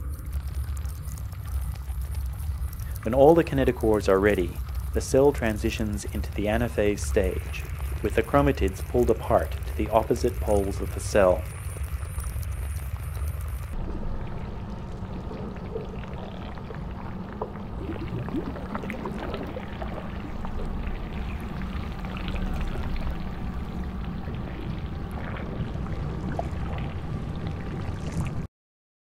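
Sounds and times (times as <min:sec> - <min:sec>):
steady low rumble: 0:00.0 - 0:28.5
watery bubbling clicks: 0:00.0 - 0:28.5.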